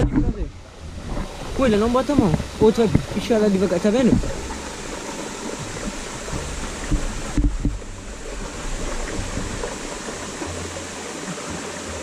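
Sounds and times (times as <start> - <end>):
low thumps: 0.0 - 11.4
stream water over rocks: 0.0 - 12.0
wind rumbling on microphone: 0.0 - 12.0.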